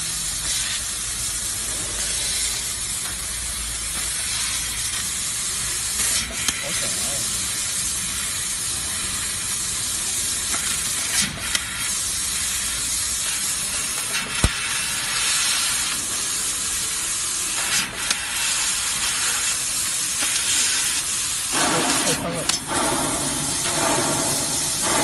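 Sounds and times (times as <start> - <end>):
laser cutter hissing and sizzling: 0.0 - 25.0.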